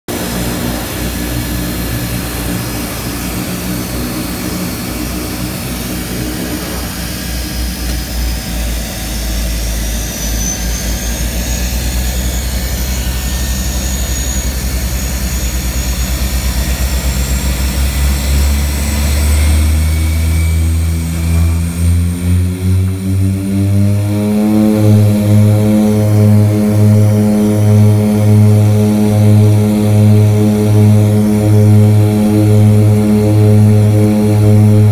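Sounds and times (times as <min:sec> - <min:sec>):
turboprop engine running: 0:00.1 - 0:34.9.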